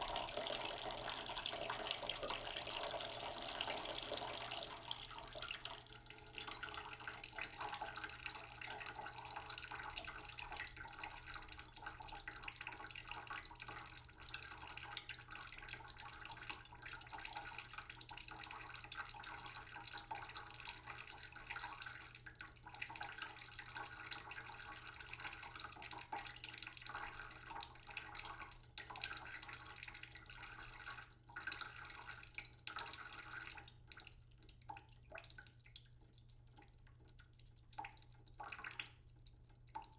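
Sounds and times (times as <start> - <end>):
water boiling in a saucepan: 0.0 - 39.9.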